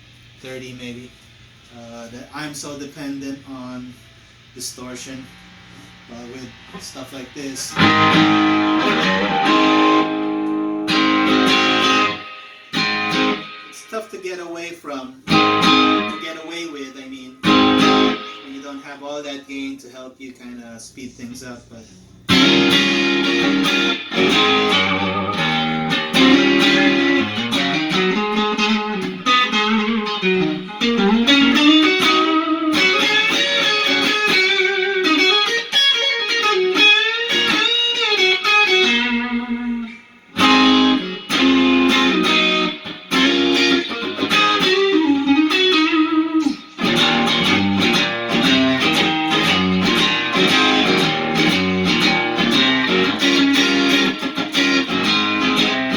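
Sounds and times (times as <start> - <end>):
electric guitar lead phrases: 0.3 - 19.5, 21.2 - 55.9.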